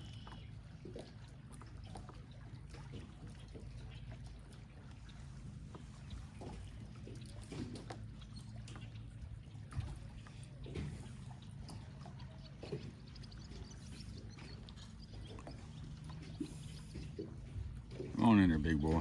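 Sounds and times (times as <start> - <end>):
steady low hum: 0.0 - 19.0
water trickling and splashing: 0.0 - 19.0.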